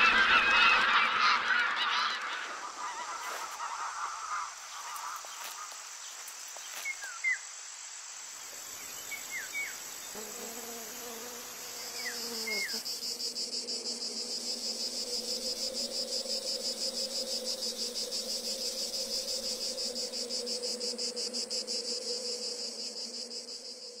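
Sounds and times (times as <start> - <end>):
cricket trilling: 2.8 - 24.0.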